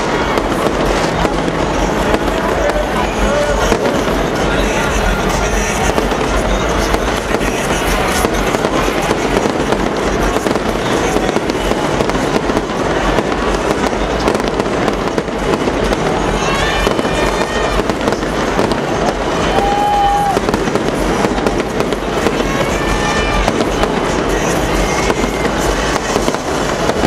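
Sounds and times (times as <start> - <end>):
fireworks crackling and popping: 0.0 - 27.0.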